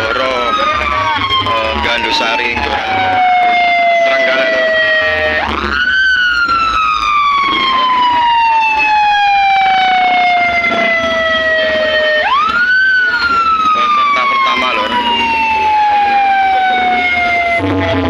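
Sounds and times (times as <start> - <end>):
siren wail: 0.0 - 18.0.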